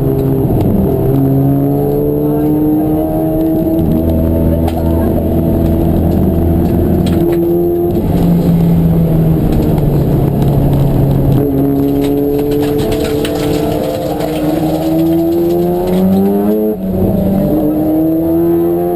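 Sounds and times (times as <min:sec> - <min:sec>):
race car engine running hard: 0:00.0 - 0:18.9.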